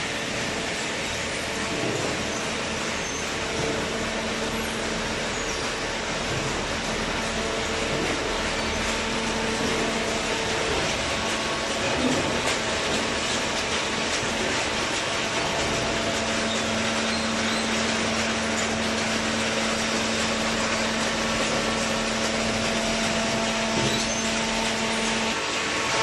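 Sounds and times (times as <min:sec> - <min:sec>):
baler machine running: 0:00.0 - 0:26.0.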